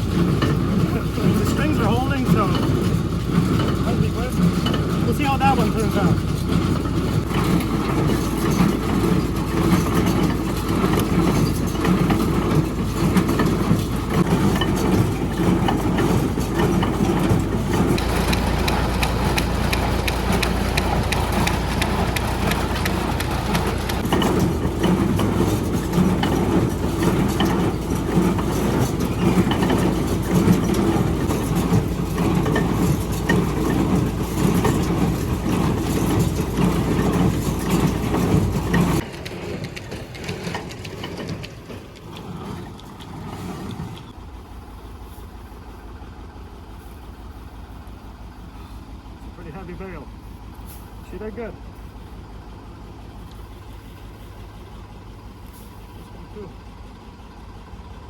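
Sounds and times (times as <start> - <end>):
square baler working: 0.0 - 58.0
tractor engine running: 0.0 - 58.0.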